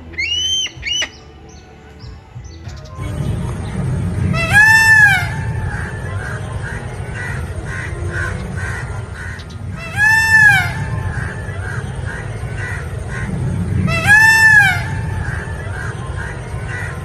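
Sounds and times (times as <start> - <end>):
bird honking calls: 0.0 - 17.0
soft bird chirps: 0.0 - 17.0
low rumble: 2.1 - 17.0.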